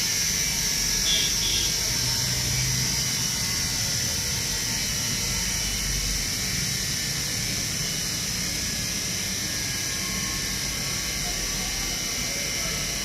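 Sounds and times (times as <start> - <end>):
washing machine motor whir: 0.0 - 13.0.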